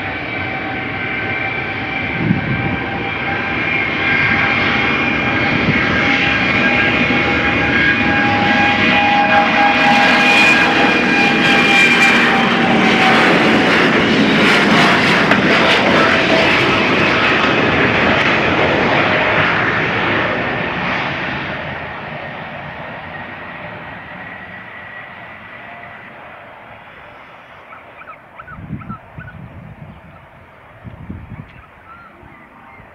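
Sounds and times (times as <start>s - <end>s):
jet engine roar: 0.0s - 32.9s.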